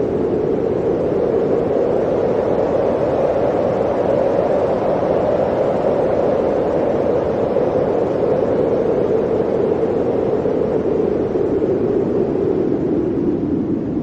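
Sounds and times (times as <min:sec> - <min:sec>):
blizzard wind blowing: 0:00.0 - 0:14.0.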